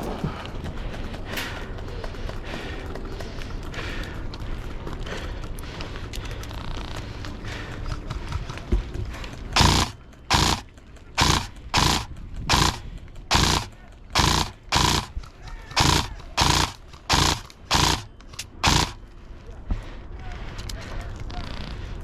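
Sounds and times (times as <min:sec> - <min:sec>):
person panting hard: 0:00.0 - 0:22.0.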